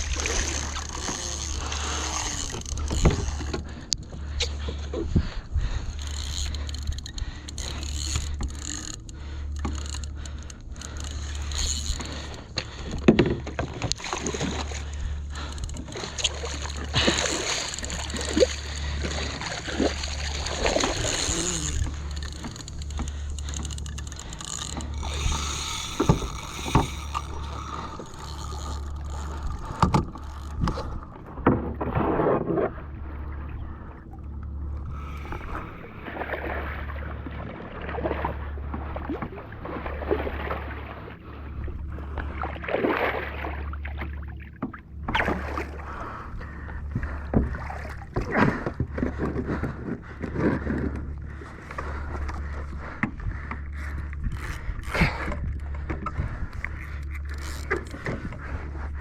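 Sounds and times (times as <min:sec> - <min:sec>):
steady low rumble: 0:00.0 - 0:42.6, 0:43.8 - 0:59.0
water splashing against kayak hull: 0:00.0 - 0:59.0.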